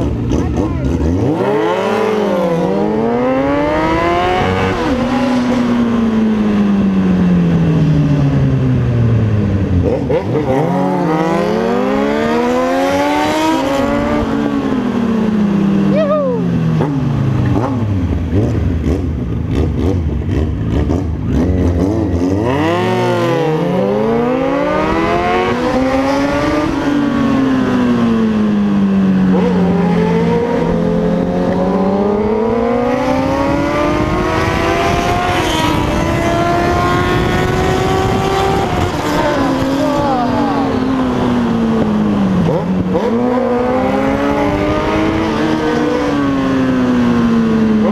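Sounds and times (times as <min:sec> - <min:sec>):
motorcycle engine revving loud: 0:00.0 - 0:47.9.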